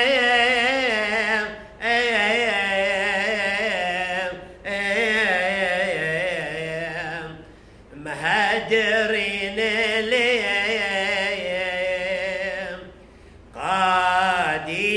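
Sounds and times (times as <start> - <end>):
man chanting a hymn: 0.0 - 14.9.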